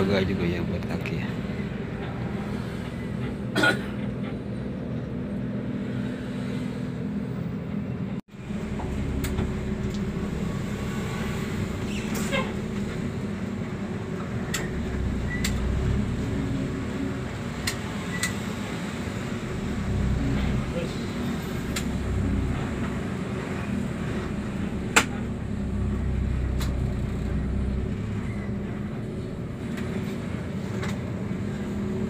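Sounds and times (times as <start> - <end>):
bus diesel engine hum: 0.0 - 32.0
road rumble: 0.0 - 32.0.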